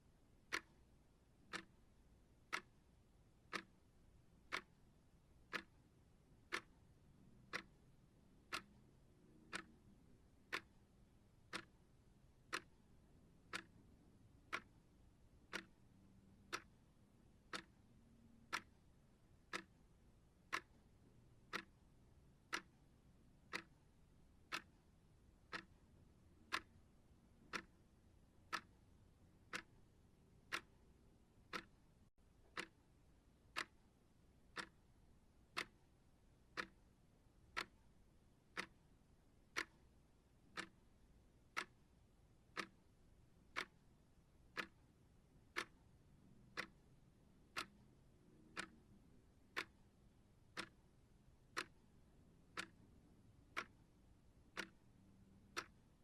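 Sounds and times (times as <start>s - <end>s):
clock ticking: 0.4s - 56.0s.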